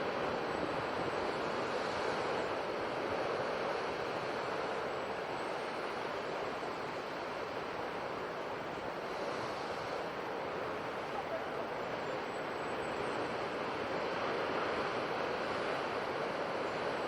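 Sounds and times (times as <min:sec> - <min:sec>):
sea surf washing onto shore: 0:00.0 - 0:17.0.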